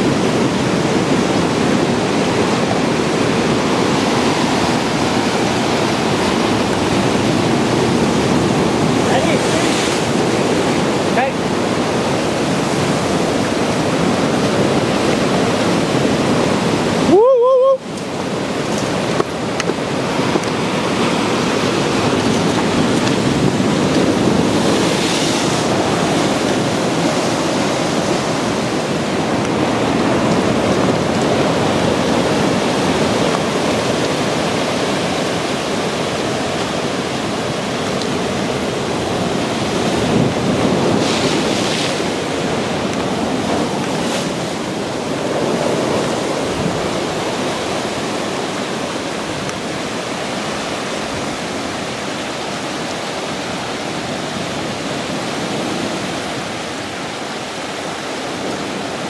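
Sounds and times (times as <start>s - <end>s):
ocean surf breaking on rocks: 0.0s - 59.0s.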